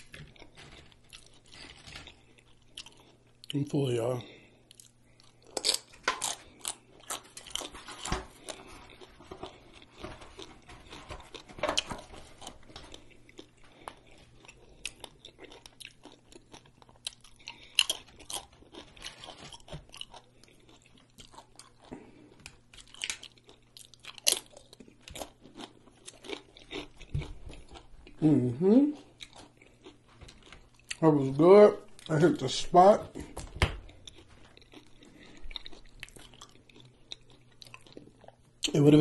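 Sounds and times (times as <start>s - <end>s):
chewing and mouth sounds: 0.0s - 3.8s, 4.6s - 31.2s, 33.8s - 38.8s.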